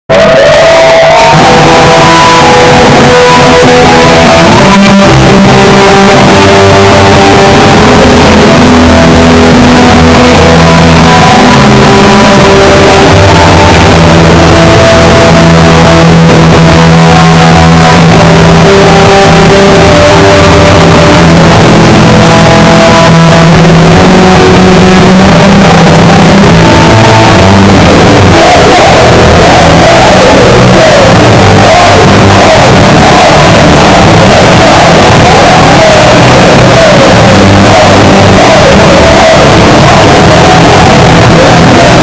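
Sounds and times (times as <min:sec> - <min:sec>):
punk band playing: 0:00.1 - 0:42.0.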